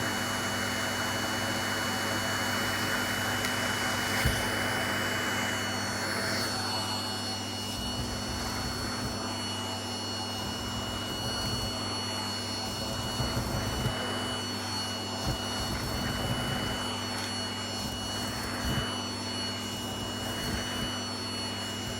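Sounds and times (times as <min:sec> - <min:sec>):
vacuum cleaner running: 0:00.0 - 0:21.9.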